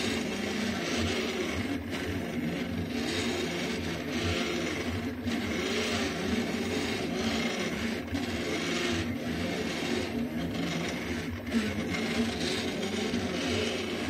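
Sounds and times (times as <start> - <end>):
stepper motors whirring: 0.0 - 14.0.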